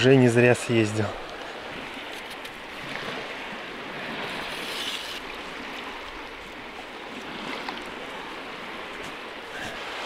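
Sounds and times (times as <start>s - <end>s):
small waves washing on shore: 0.0s - 10.0s.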